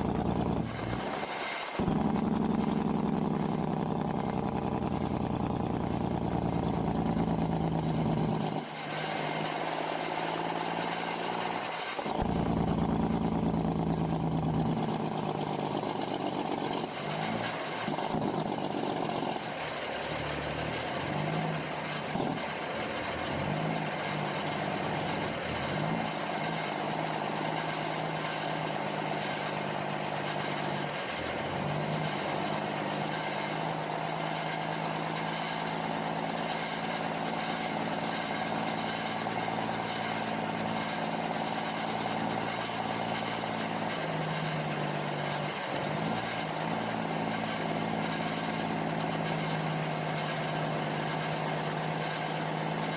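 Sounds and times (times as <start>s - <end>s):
diesel truck engine idling: 0.0s - 52.9s.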